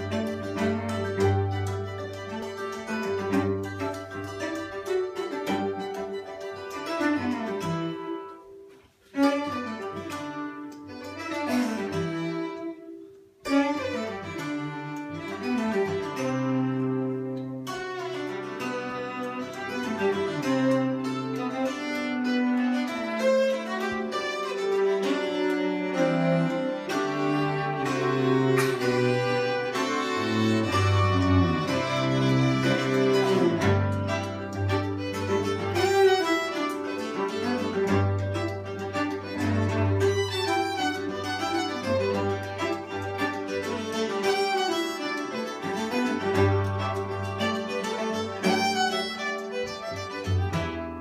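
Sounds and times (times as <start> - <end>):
hammered dulcimer: 0.0 - 8.2, 13.5 - 51.0
cello: 0.0 - 51.0
violin: 0.0 - 51.0.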